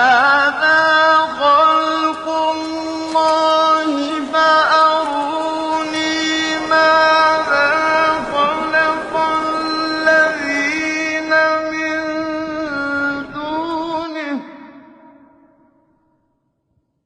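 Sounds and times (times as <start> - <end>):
single voice chanting: 0.0 - 14.7.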